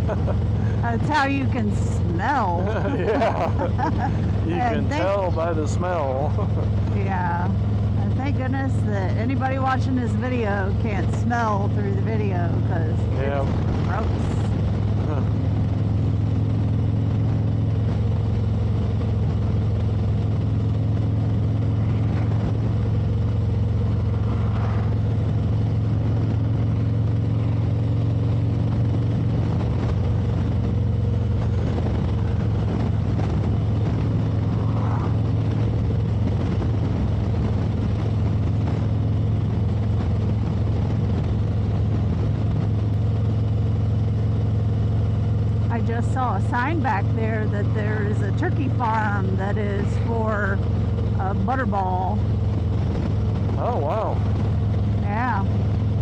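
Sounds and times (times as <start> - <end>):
motorcycle engine drone: 0.0 - 56.0
wind and road noise: 0.0 - 56.0.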